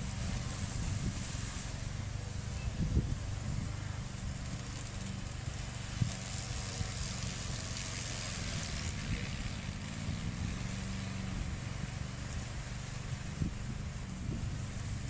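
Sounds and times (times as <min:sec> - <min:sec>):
mower engine running under load: 0:00.0 - 0:15.0.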